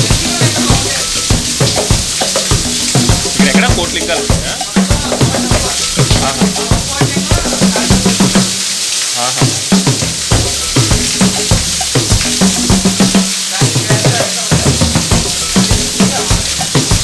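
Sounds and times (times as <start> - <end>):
funky music with bass line: 0.0 - 17.0
waterfall rushing: 0.0 - 17.0.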